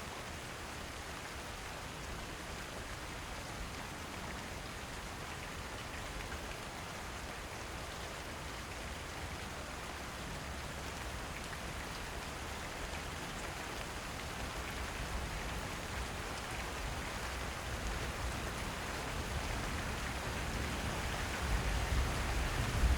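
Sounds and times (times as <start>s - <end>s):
rain on a roof: 0.0s - 22.9s.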